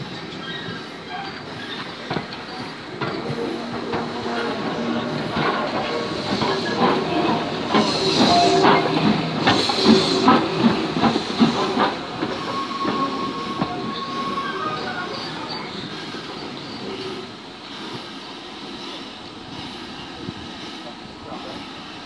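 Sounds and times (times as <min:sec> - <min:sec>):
steam hissing: 0:00.0 - 0:22.0
steam locomotive moving slowly: 0:00.0 - 0:22.0.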